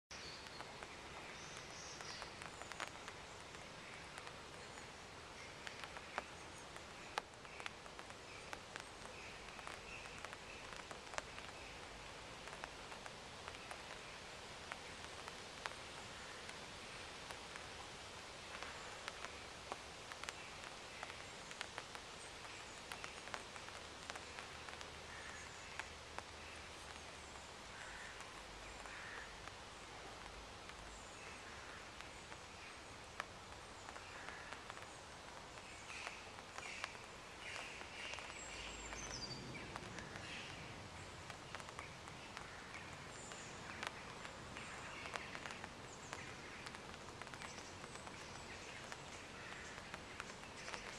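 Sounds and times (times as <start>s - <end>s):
distant birds chirping: 0.1s - 50.9s
steady hiss: 0.1s - 50.9s.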